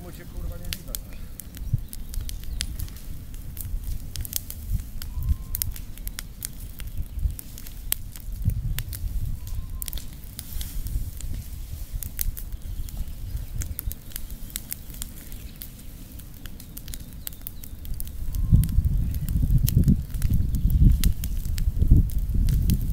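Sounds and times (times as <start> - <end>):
burning leaves crackling and popping: 0.0 - 22.9.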